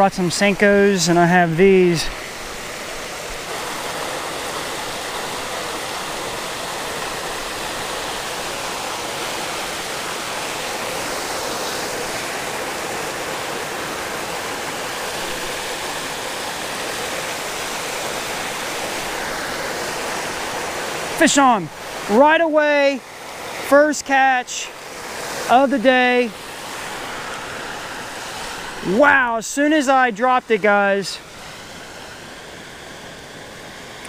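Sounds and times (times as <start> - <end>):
small waterfall rushing: 0.0 - 34.0.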